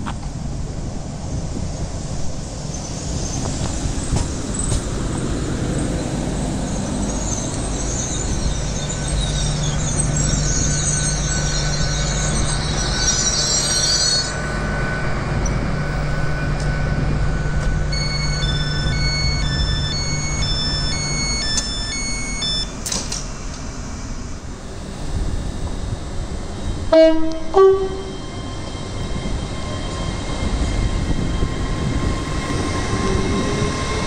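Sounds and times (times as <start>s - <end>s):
train rumble: 0.0s - 34.0s
train wheels squealing: 2.5s - 34.0s.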